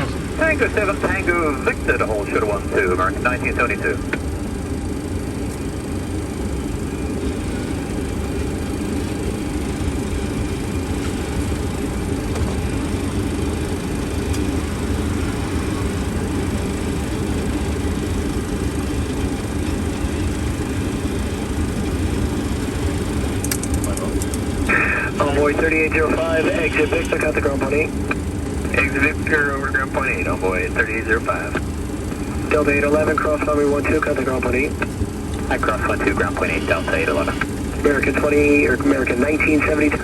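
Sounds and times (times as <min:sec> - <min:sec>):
airflow and engine rumble: 0:00.0 - 0:40.0.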